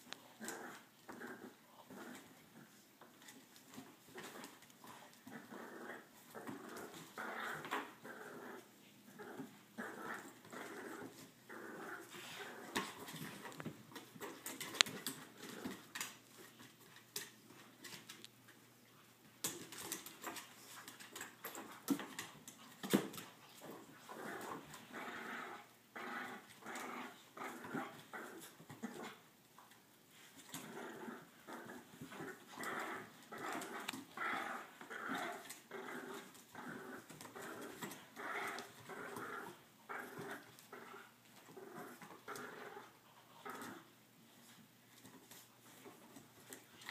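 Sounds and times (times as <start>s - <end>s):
dogs growling: 0.2s - 2.8s, 3.7s - 16.2s, 19.9s - 29.2s, 30.1s - 44.0s.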